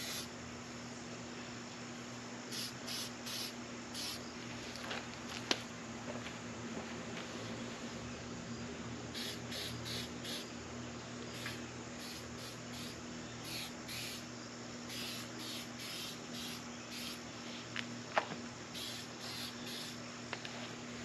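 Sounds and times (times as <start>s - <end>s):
faint steady hum: 0.0s - 21.0s
insects chirping: 0.0s - 21.0s.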